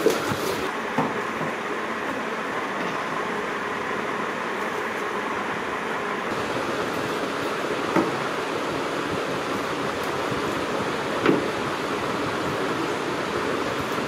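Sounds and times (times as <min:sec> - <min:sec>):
steady rushing background noise: 0:02.5 - 0:14.0.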